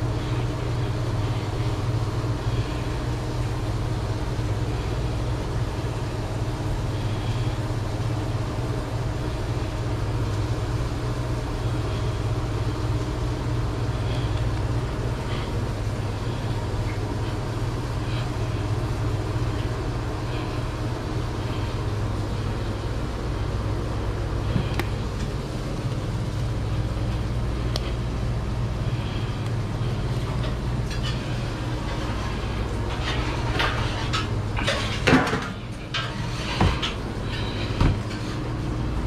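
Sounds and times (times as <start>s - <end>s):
low mechanical drone: 0.0s - 39.0s.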